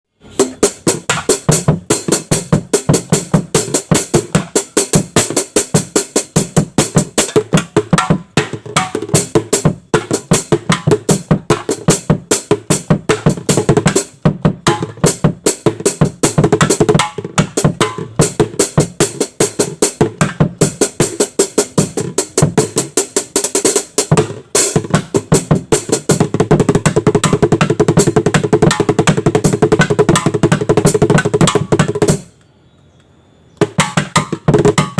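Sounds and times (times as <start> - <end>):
drumming on tin cans and buckets: 0.4 - 23.0, 23.8 - 32.3, 33.6 - 34.9.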